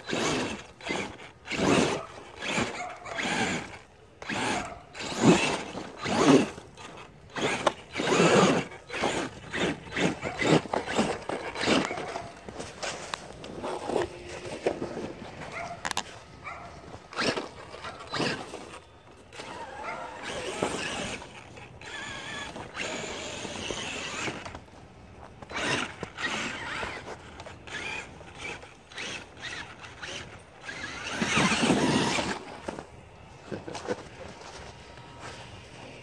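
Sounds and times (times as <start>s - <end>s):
electric motor and gears whining: 0.0s - 36.0s.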